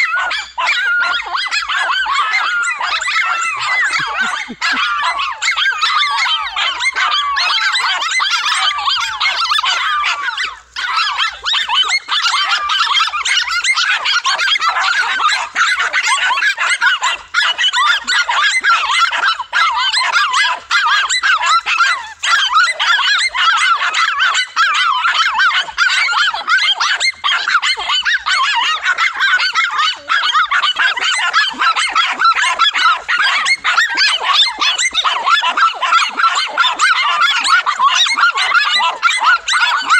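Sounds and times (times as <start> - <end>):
dogs barking and yapping: 0.0 - 39.9.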